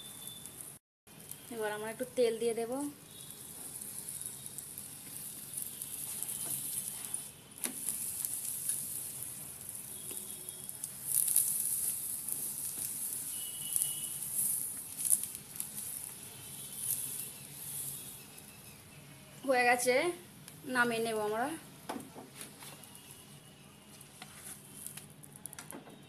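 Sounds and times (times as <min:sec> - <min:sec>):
oil sizzling and crackling: 0:00.0 - 0:21.9, 0:24.0 - 0:25.8.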